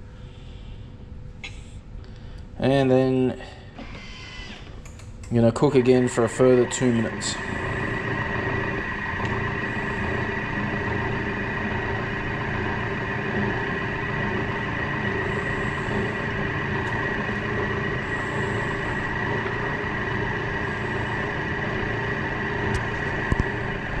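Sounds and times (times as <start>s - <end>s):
kitchen appliance motor humming: 3.8s - 24.0s.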